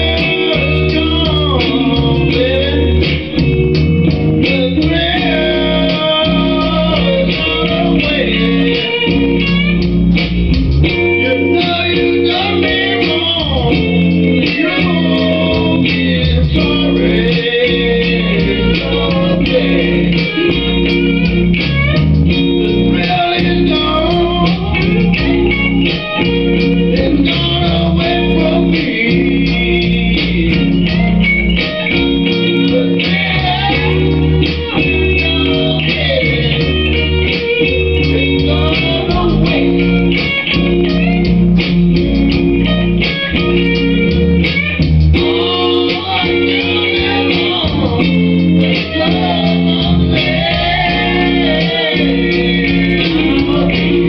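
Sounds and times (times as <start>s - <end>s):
electric guitar riff: 0.0s - 54.0s
low bass part: 0.0s - 54.0s.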